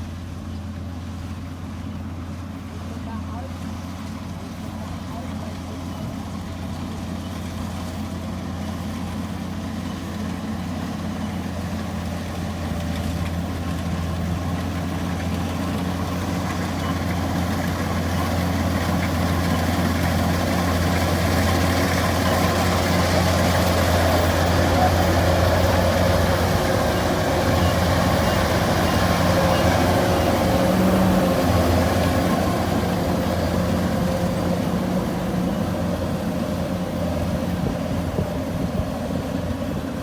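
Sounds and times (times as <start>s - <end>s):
combine harvester engine running: 0.0s - 40.0s.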